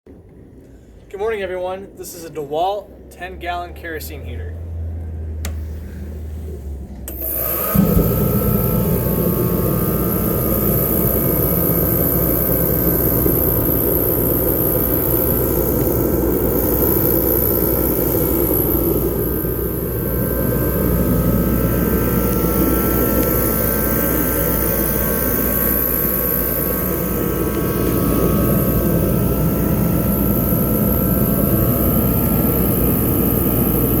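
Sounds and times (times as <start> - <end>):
heater fan and burner rushing: 0.1 - 34.0
faint whining tones: 4.6 - 34.0.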